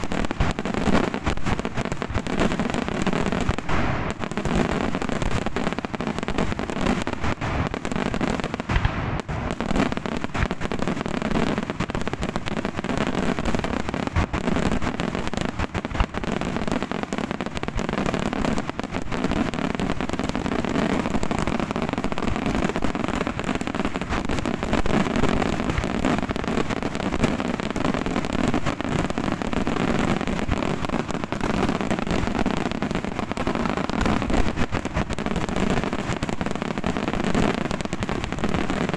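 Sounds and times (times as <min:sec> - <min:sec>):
fireworks rattling: 0:00.0 - 0:38.9
loud firework reports: 0:00.0 - 0:38.9.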